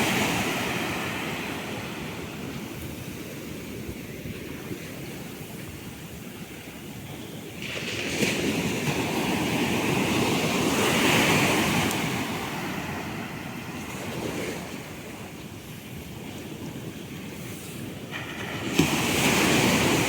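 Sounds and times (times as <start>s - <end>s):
sea wave rushing: 0.0s - 20.0s.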